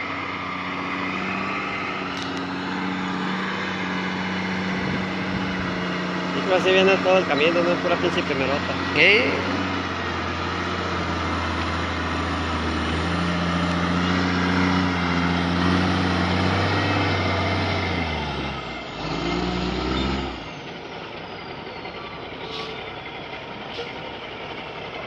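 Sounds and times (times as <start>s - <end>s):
diesel truck engine under load: 0.0s - 25.0s.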